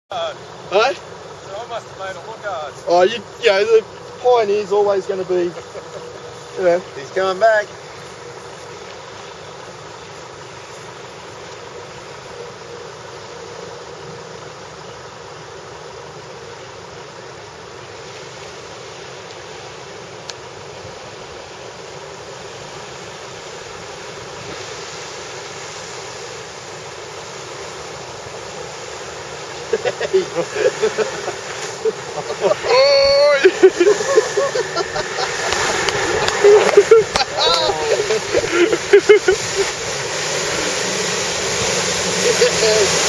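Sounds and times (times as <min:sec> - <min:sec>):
water hissing around truck: 0:00.1 - 0:43.0.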